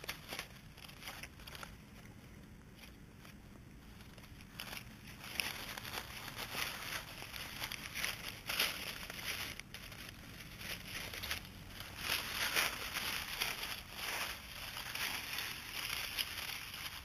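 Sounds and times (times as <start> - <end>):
dry leaves rustling and crunching: 0.0 - 2.1, 2.8 - 17.0.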